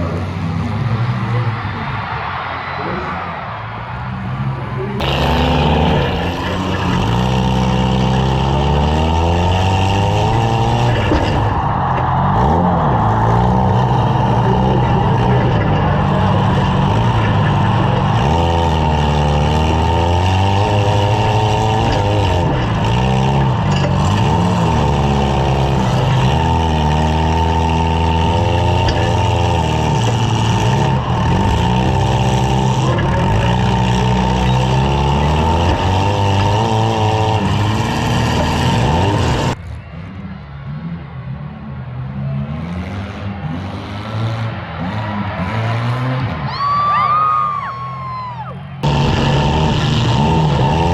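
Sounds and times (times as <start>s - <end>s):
small car engines revving: 0.0s - 50.9s.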